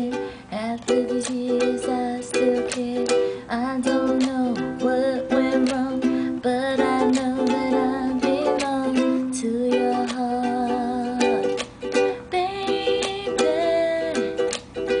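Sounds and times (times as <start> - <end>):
ukulele strumming: 0.0 - 15.0
woman singing: 0.0 - 15.0.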